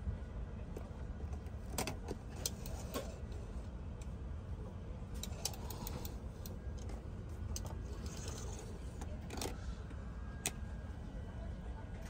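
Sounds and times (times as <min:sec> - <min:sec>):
low aircraft cabin hum: 0:00.0 - 0:12.0.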